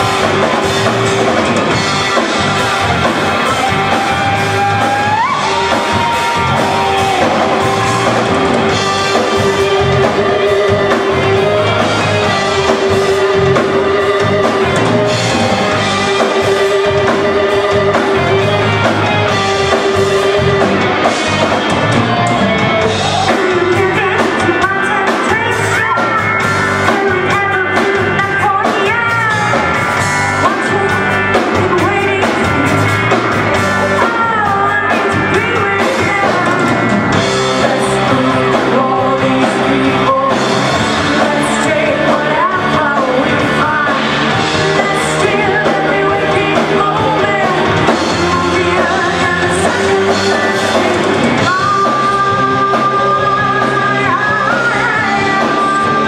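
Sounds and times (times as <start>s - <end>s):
drums: 0.0s - 56.0s
electric guitars: 0.0s - 56.0s
woman singing: 3.3s - 21.7s, 22.8s - 56.0s.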